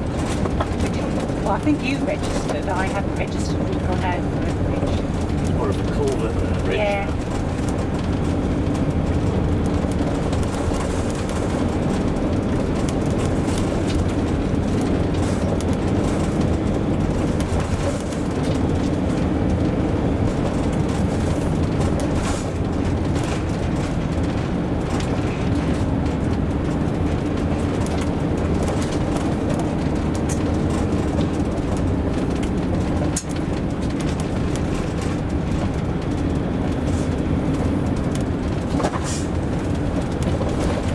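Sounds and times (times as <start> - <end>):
engine and tyre drone: 0.0 - 40.9.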